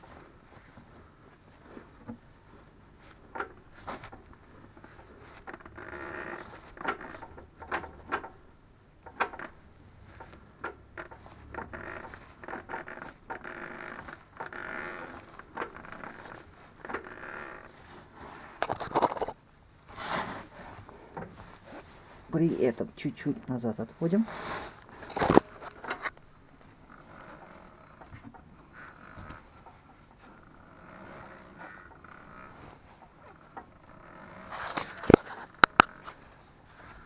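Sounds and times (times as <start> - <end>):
rubber boots squeaking and creaking: 0.0 - 7.3, 9.3 - 18.2, 20.0 - 22.3, 24.2 - 37.0.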